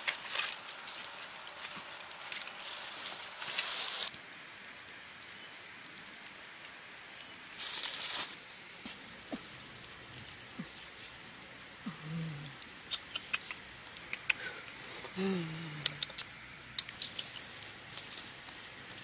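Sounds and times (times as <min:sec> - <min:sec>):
campfire crackling and hissing: 0:00.0 - 0:19.0.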